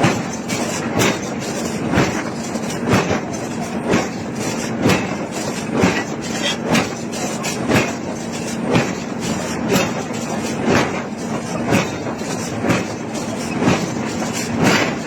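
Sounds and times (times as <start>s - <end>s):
heavy hammer blows on hot iron: 0.0s - 15.0s
steady machine hum: 0.0s - 15.0s.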